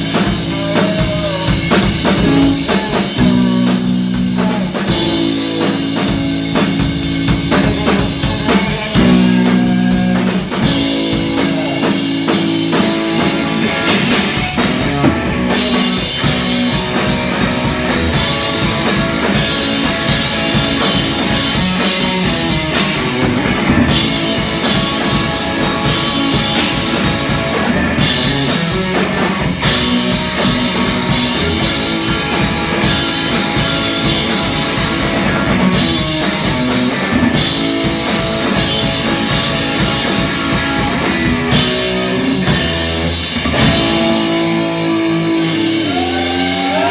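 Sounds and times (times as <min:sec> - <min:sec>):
drum kit: 0:00.0 - 0:46.9
electric guitar: 0:00.0 - 0:46.9.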